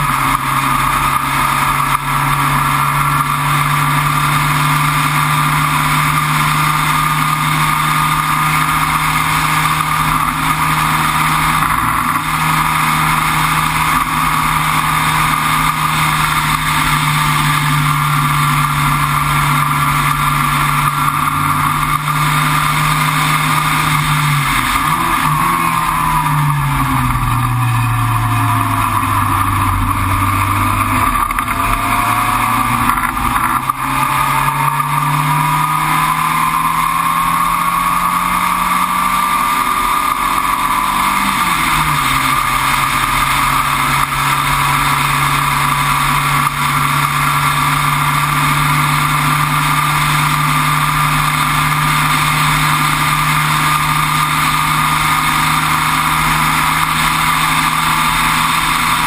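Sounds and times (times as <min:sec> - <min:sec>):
race car engine: 0:00.0 - 0:59.0
wind and road noise: 0:00.0 - 0:59.0.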